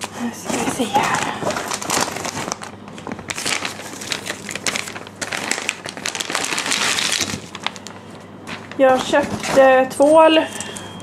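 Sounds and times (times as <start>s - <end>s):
shopping bags rustling: 0.0s - 10.8s.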